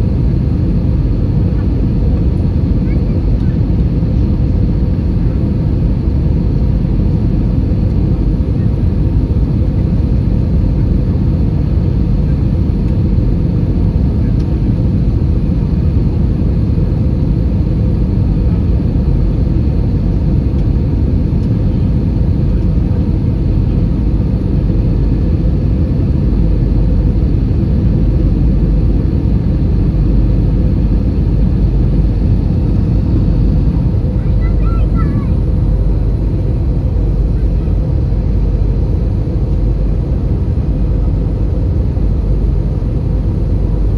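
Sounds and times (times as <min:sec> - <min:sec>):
airplane cabin roar: 0:00.0 - 0:43.9.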